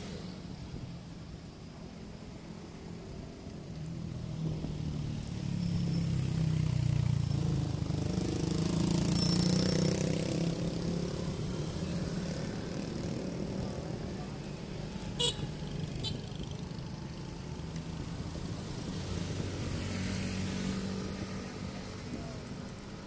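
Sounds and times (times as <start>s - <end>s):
city traffic: 0.0s - 23.0s.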